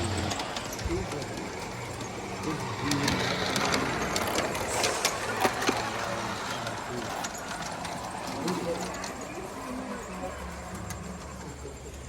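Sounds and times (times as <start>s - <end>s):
model train motor hum: 0.0s - 12.0s
wheels clicking over track: 0.0s - 12.0s.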